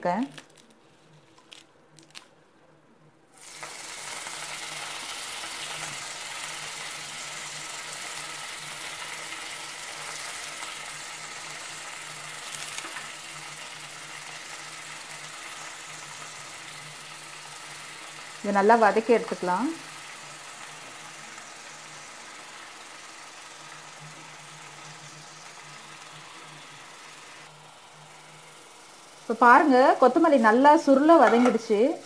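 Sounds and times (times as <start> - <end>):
coriander leaves sizzling in oil: 3.3 - 32.0.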